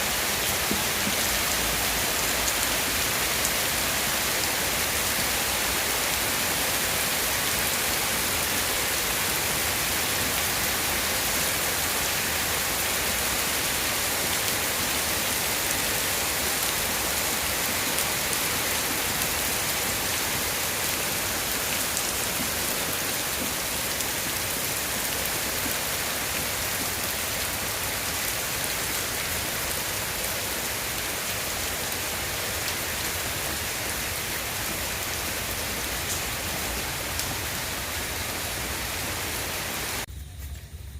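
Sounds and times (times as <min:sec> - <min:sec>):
heavy rain pattering: 0:00.0 - 0:40.4.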